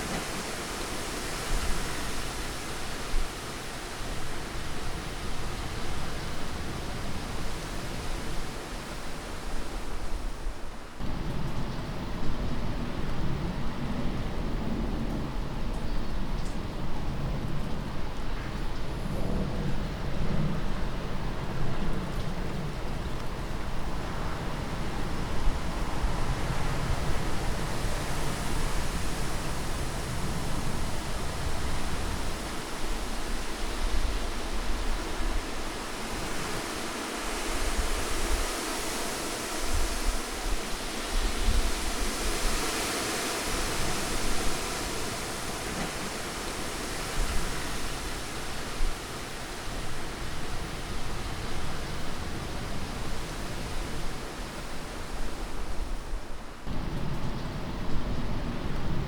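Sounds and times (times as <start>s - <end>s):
wind hiss: 0.0s - 59.0s.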